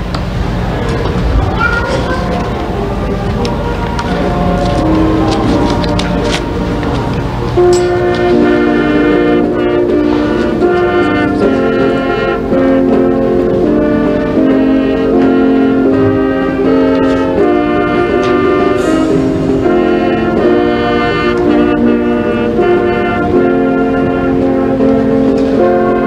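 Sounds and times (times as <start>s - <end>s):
slow instrumental music: 0.8s - 26.0s.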